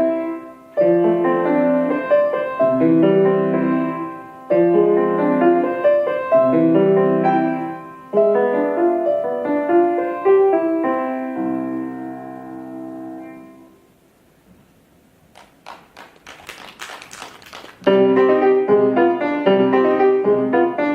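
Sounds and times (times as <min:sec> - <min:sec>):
solo piano chords: 0:00.0 - 0:14.0, 0:17.9 - 0:20.9.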